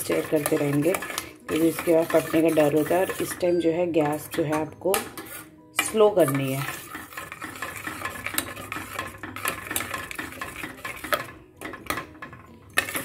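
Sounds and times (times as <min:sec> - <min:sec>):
metal spoon scraping a pot: 0:00.0 - 0:13.0.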